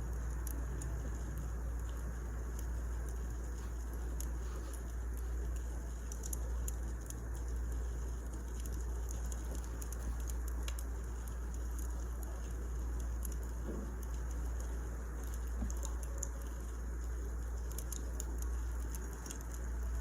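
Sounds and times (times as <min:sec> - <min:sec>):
low rumble of fire: 0:00.0 - 0:20.0
wood fire crackling: 0:00.0 - 0:20.0.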